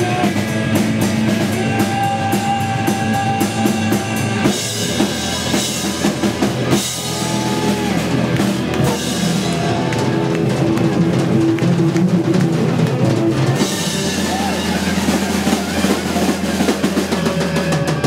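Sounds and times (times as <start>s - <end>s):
bass drum: 0.0s - 18.0s
fast drum strokes: 0.0s - 18.0s
sustained guitar and bass notes: 0.0s - 18.0s.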